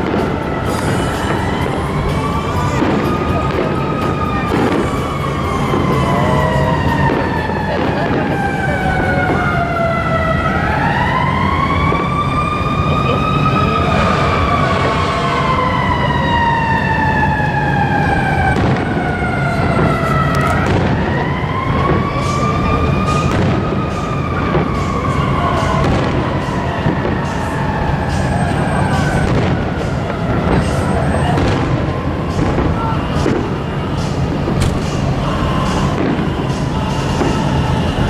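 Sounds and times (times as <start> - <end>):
emergency vehicle siren wailing: 0.0 - 38.0.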